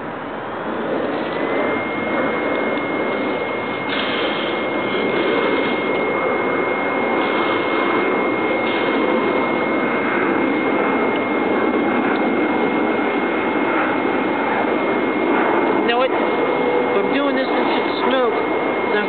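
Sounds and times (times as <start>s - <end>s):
camp stove fan whooshing: 0.0s - 19.0s
high thin whine: 0.0s - 19.0s.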